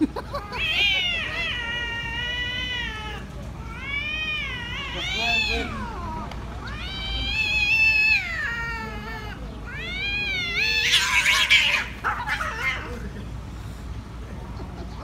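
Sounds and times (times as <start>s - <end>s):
cats yowling: 0.1s - 13.2s
cats hissing and screeching: 0.1s - 14.0s.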